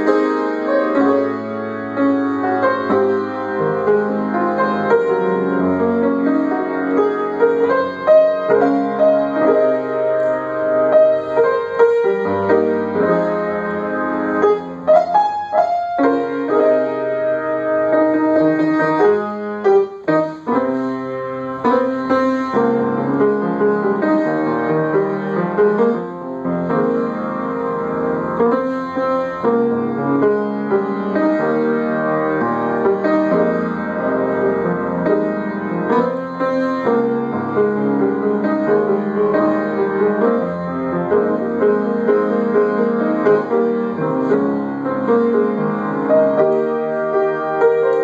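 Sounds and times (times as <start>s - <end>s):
solo piano gospel ballad: 0.0s - 48.0s.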